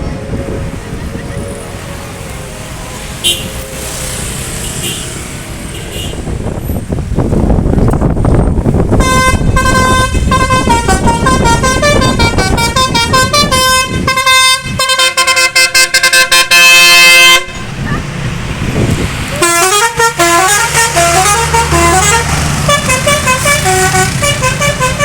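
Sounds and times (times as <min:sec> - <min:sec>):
multi-tone bus horn tune: 0:00.0 - 0:06.3, 0:08.9 - 0:17.7, 0:19.4 - 0:25.0
bus engine: 0:00.0 - 0:25.0.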